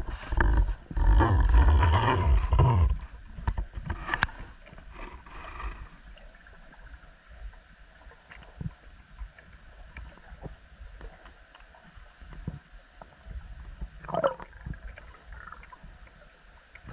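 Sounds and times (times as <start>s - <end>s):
muffled underwater water rushing: 0.0s - 16.9s.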